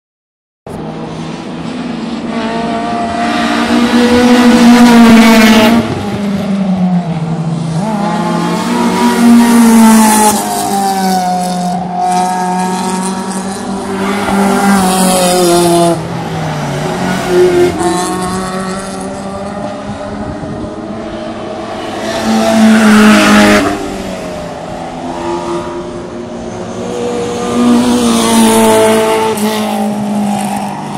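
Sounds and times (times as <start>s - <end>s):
race car engine at high revs: 0.8s - 30.9s.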